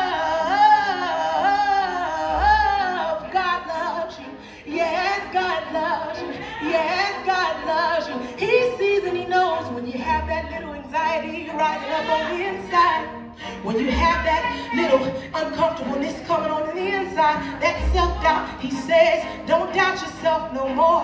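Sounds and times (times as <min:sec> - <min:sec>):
woman singing gospel: 0:00.0 - 0:21.0.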